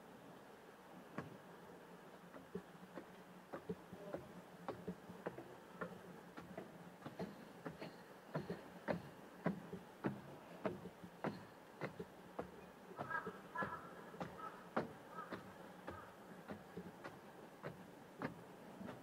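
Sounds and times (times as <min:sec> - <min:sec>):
footsteps on hard path: 0:02.3 - 0:19.0.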